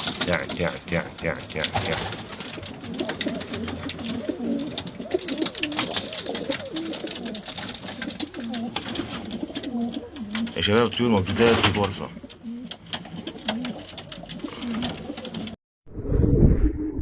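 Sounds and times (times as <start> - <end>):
pigeons cooing: 0.0 - 15.6.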